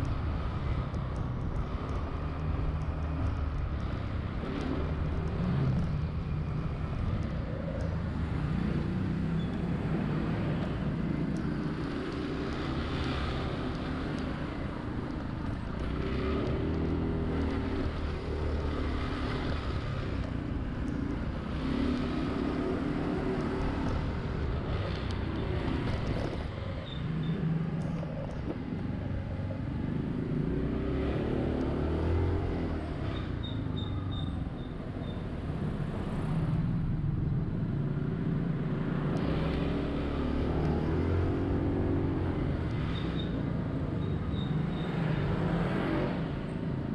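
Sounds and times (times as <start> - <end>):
road and traffic noise: 0.0 - 46.9.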